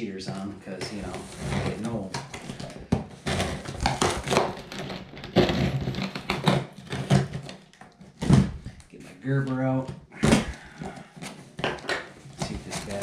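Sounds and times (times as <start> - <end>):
cardboard crinkling: 0.2 - 13.0.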